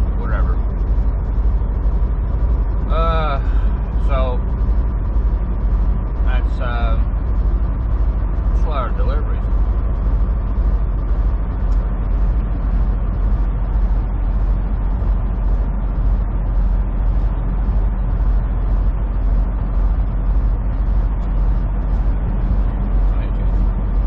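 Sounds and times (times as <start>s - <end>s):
diesel engine drone: 0.0s - 24.0s
road noise: 0.0s - 24.0s.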